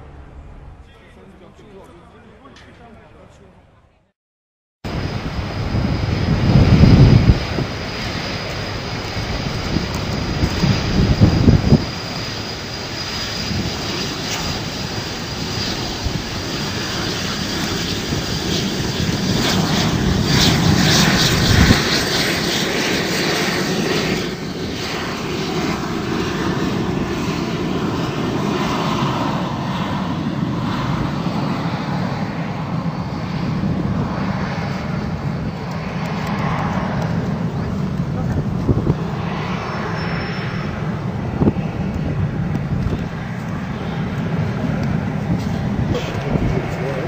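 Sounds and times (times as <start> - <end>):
airplane engine in flight: 4.8 - 47.0.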